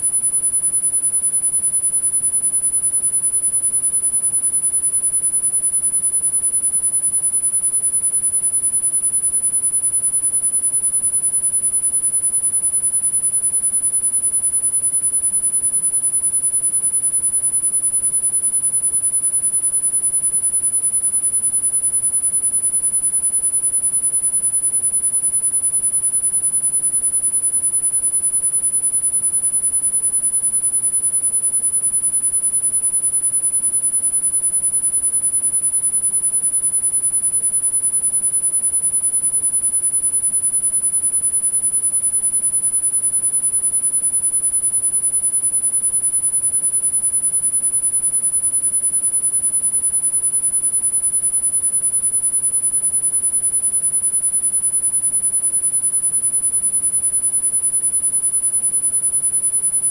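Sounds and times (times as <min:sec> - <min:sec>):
high-pitched sine tone: 0:00.0 - 0:59.9.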